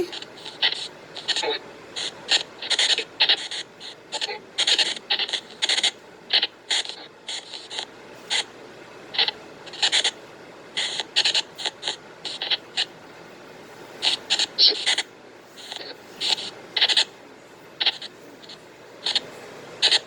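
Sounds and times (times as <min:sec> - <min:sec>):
bursts of hissing static: 0:00.0 - 0:20.0.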